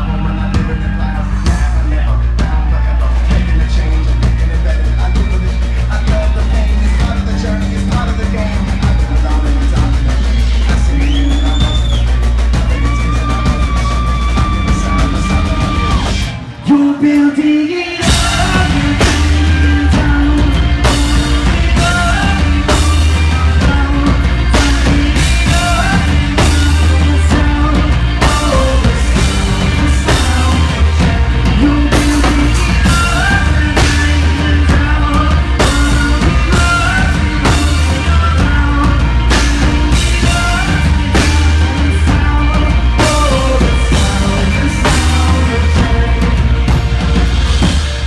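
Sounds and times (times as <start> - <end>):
drum kit beat: 0.0 - 48.0
instrumental rock music: 0.0 - 48.0.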